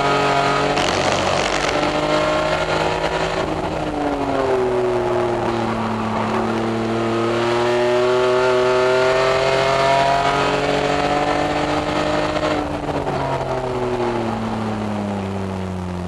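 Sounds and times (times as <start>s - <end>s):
race car engine revving: 0.0s - 14.9s.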